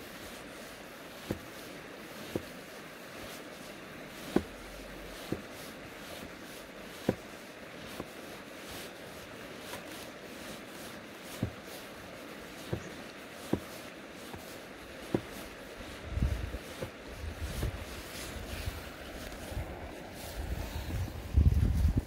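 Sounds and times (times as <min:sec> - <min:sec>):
flowing river hiss: 0:00.0 - 0:22.0.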